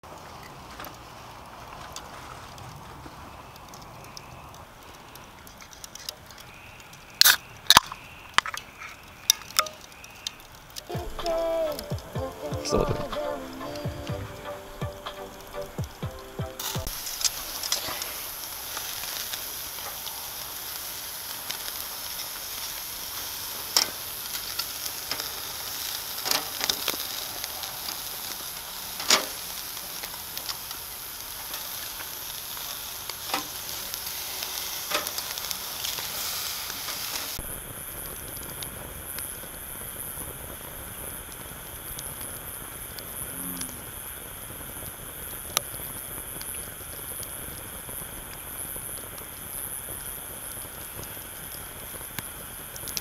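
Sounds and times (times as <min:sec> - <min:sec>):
food sizzling over fire: 0:00.0 - 0:53.0.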